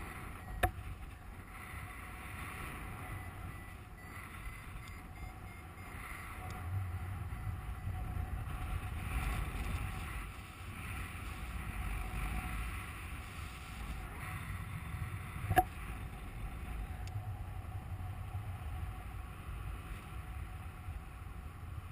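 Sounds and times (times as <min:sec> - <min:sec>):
wind rushing over microphone: 0:00.0 - 0:21.9.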